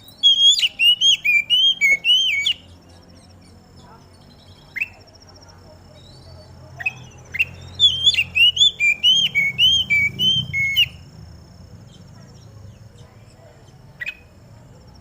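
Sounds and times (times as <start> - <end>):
bird singing whistled notes: 0.0 - 5.3, 5.9 - 11.1, 11.9 - 14.4.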